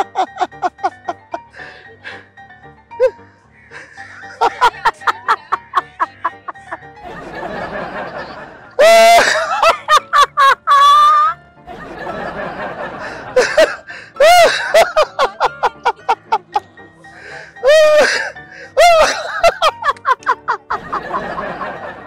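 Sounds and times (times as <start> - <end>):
man laughing loudly: 0.0 - 1.3, 3.0 - 16.6, 17.6 - 22.0.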